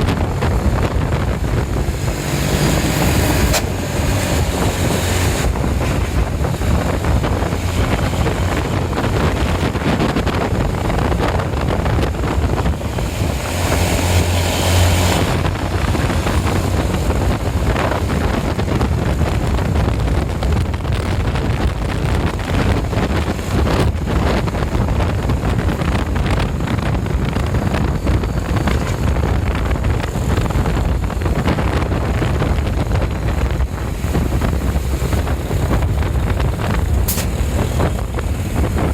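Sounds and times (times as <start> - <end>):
bus engines rumbling past: 0.0 - 38.9
wind buffeting microphone: 0.0 - 38.9.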